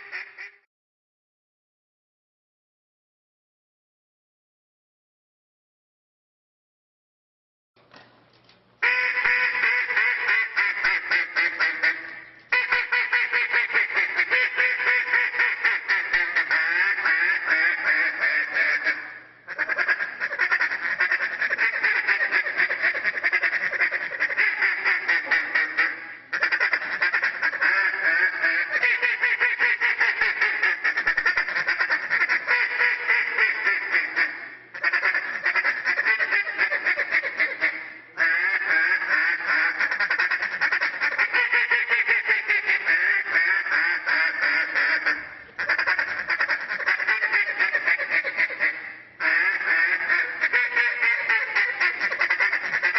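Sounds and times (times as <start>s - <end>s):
duck call quacking: 0.0s - 0.6s, 8.8s - 52.9s.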